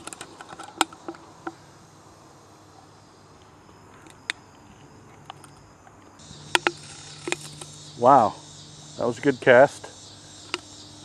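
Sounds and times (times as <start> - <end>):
insects singing: 0.0 - 11.0.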